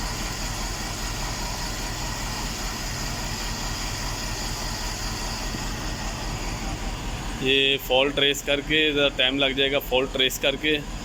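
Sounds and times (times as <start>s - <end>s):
engine idling with misfire: 0.0s - 11.0s.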